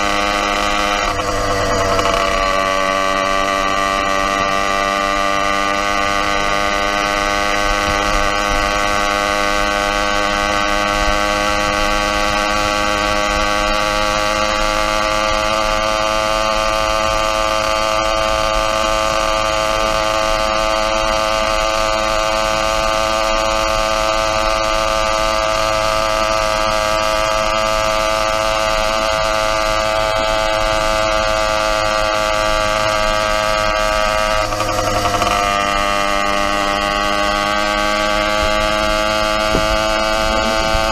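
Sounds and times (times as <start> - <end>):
motorized bicycle engine droning: 0.0 - 40.9.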